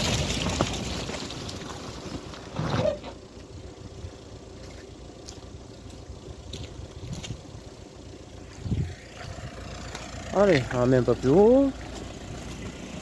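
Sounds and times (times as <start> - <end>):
car engine driving away: 0.0 - 13.0.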